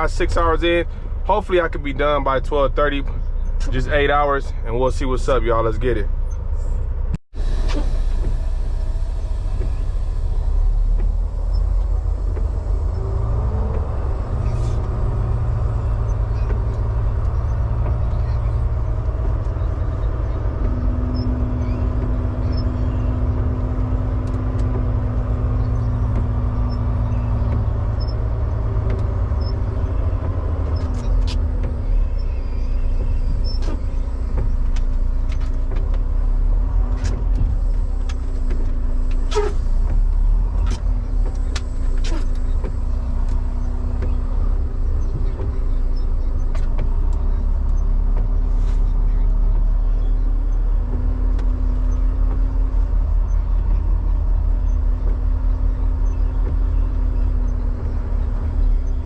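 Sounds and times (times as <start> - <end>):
diesel engine hum inside cab: 0.0 - 59.0
road noise: 0.0 - 59.0.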